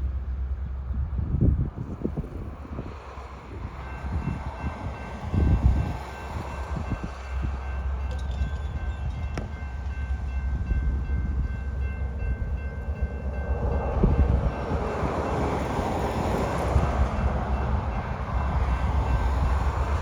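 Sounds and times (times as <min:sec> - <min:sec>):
wind on microphone: 0:00.6 - 0:20.0.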